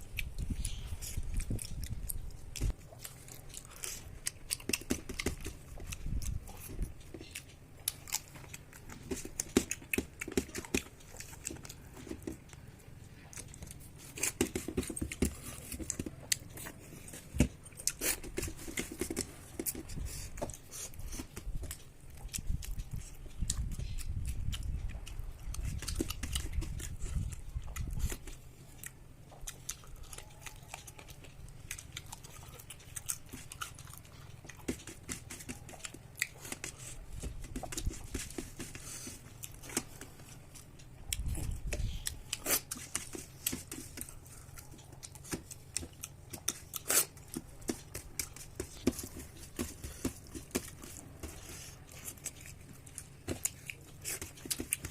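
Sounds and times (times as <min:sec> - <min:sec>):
person chewing and smacking: 0:00.0 - 0:54.9.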